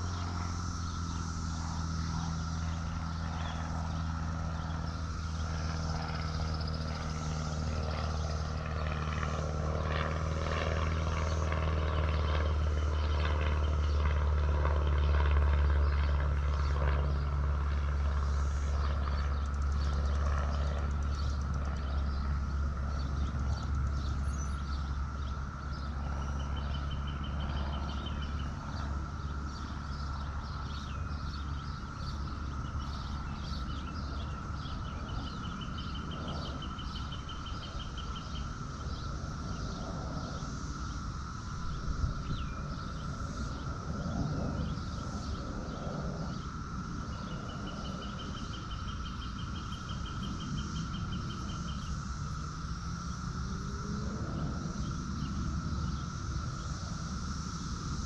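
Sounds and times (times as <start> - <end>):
passing motor engine drone: 0.0 - 58.0.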